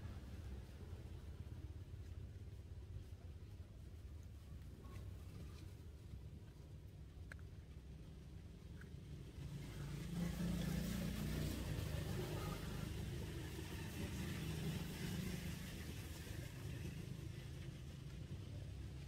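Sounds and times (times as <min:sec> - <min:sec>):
engine rumbling: 0:00.0 - 0:19.0.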